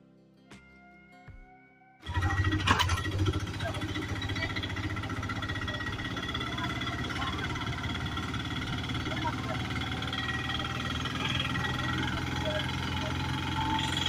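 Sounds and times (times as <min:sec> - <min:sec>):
auto-rickshaw engine running: 0:02.0 - 0:14.0.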